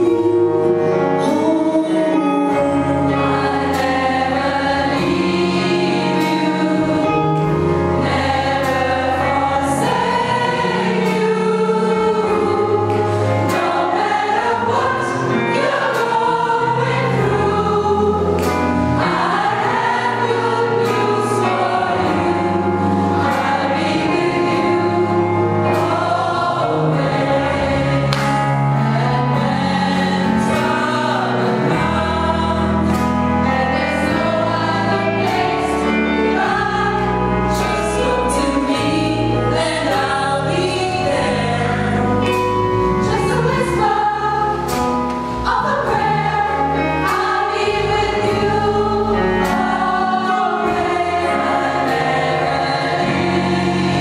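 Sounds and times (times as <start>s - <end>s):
gospel choir singing: 0.0s - 54.0s
bass notes: 1.3s - 54.0s
percussion strokes: 2.6s - 54.0s.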